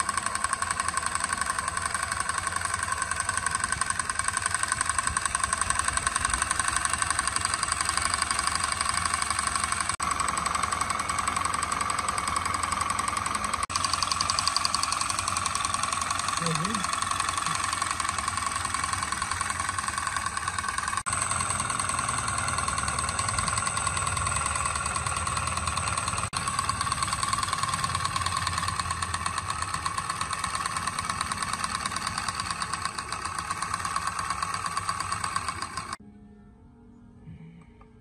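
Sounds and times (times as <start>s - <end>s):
motor whine: 0.0s - 36.0s
sewing machine rattle: 0.0s - 36.0s.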